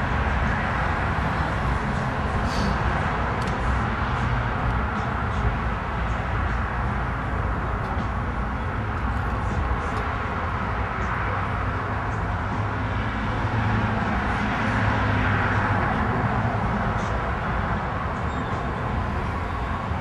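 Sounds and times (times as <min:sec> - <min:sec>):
road rumble: 0:00.0 - 0:20.0
vehicle engine hum: 0:00.0 - 0:20.0.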